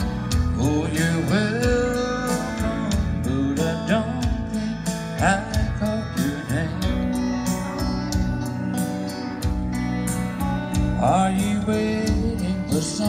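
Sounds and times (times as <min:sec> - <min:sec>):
live country band music: 0:00.0 - 0:13.0
sliding electric guitar: 0:00.0 - 0:13.0.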